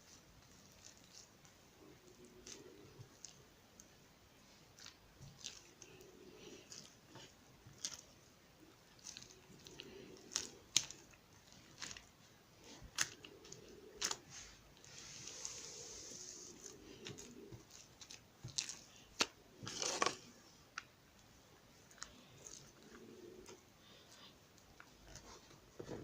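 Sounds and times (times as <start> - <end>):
sticky slime squishing: 0.0 - 26.0.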